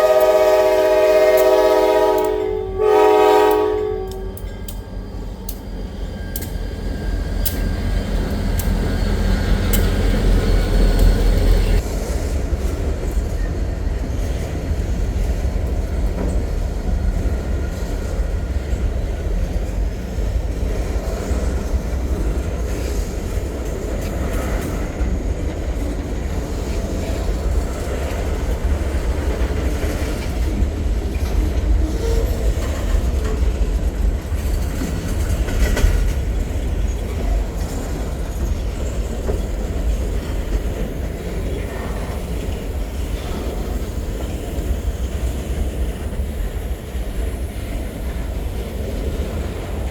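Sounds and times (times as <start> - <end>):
diesel locomotive rumble: 0.0 - 49.9
freight cars rolling on rails: 3.6 - 49.9.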